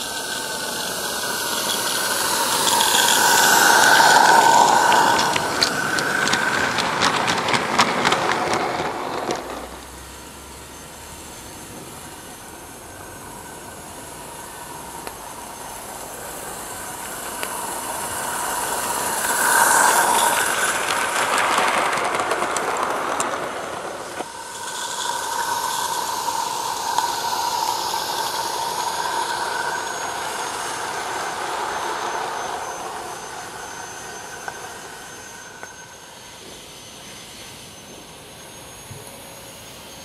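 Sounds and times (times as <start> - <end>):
model train wheels on rails: 0.0 - 40.0
steam hissing: 0.0 - 40.0.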